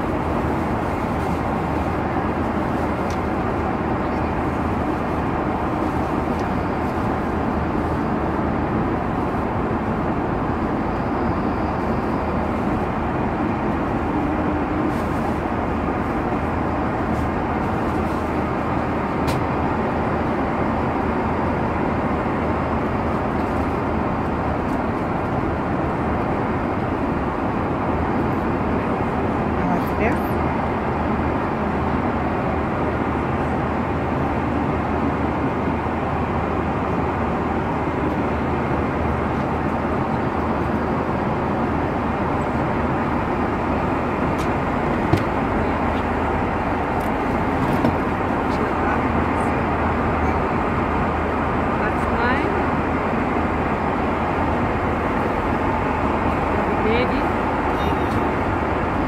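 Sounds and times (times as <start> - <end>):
airplane cabin roar: 0.0 - 59.0.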